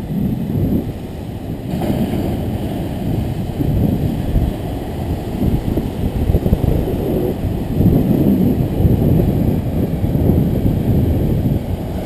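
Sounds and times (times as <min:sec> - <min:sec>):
ocean waves breaking on rocks: 0:00.0 - 0:12.0
wind buffeting microphone: 0:00.0 - 0:12.0.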